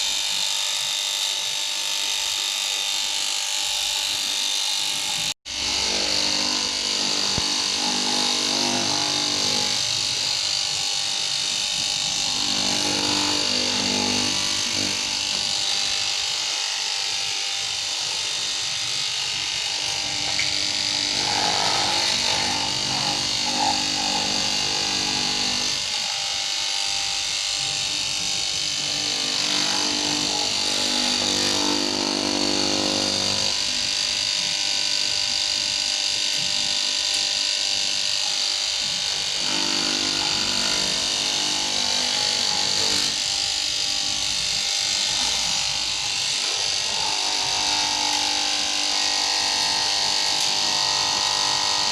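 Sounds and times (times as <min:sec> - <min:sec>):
electric cutting machine buzzing: 0:00.0 - 0:51.9.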